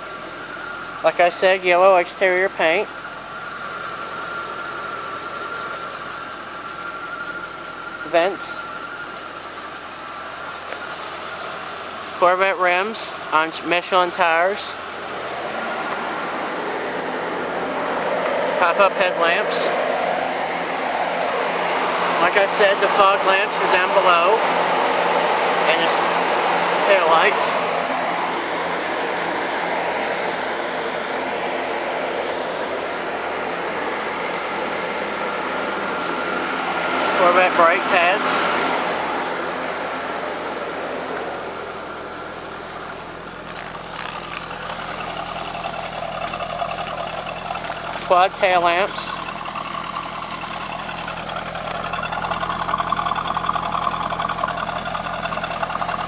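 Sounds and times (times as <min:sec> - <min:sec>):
car engine idling: 0:00.0 - 0:56.0
steady hiss: 0:00.0 - 0:56.0.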